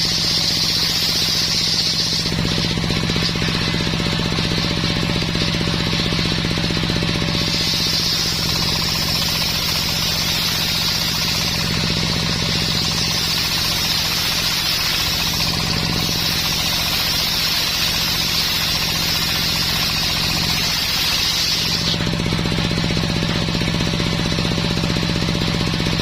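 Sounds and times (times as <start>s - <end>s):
saw blade hissing through wood: 0.0s - 23.8s
engine droning: 0.0s - 26.0s.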